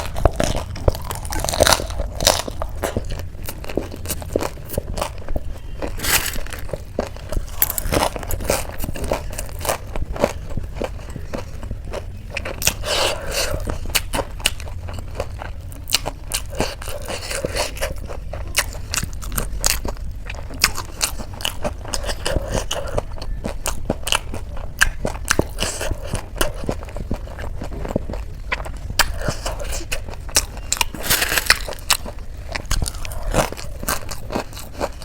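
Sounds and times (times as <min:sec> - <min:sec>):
crunchy chewing of snacks: 0:00.0 - 0:35.0.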